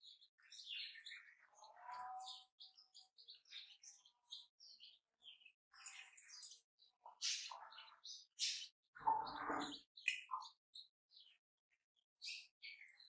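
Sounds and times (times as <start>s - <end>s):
chicks peeping: 0.0s - 11.4s.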